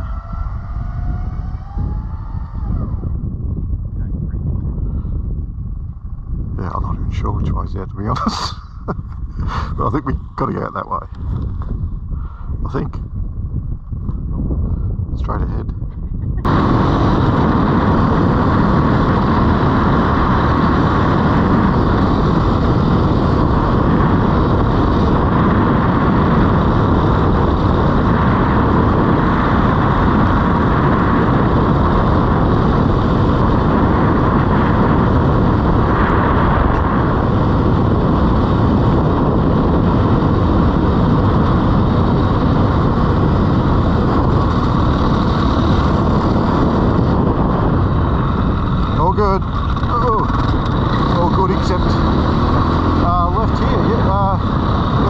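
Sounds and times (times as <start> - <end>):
dirt bike engine running: 0.0 - 6.8, 16.0 - 55.0
rush of noise: 0.0 - 55.0.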